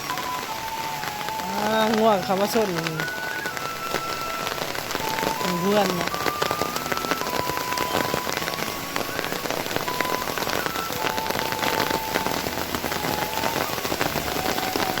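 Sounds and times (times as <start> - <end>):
faint whistle-like tones: 0.0 - 15.0
rain patter: 0.0 - 15.0.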